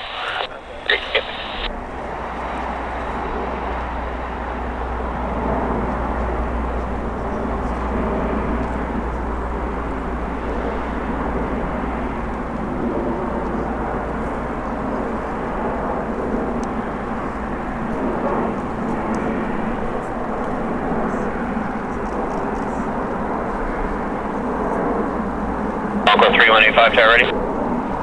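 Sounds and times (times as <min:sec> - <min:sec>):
jet airliner engines rushing: 0:00.0 - 0:28.0.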